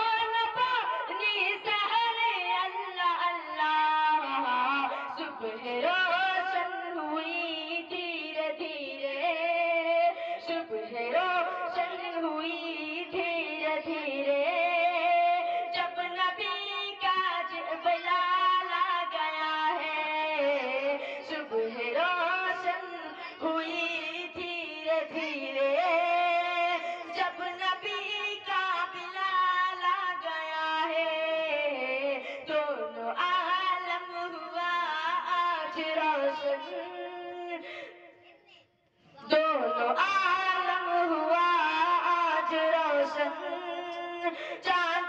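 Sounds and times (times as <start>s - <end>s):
boy singing into a microphone: 0.0s - 45.0s.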